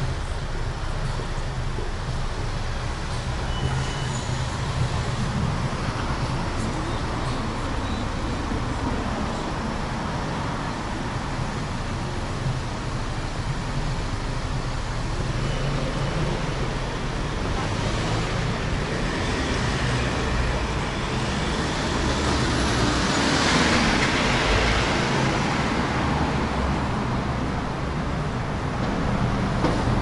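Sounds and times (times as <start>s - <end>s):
vehicles driving past: 0.0s - 30.0s.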